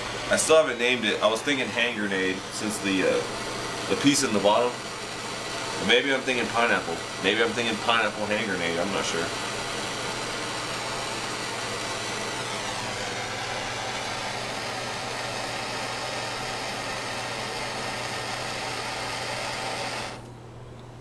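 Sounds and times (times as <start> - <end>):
butane torch hissing: 0.0 - 20.3.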